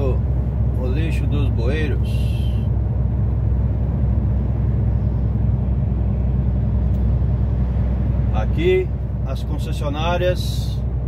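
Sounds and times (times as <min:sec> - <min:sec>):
diesel truck engine drone: 0:00.0 - 0:11.0
road noise: 0:00.0 - 0:11.0.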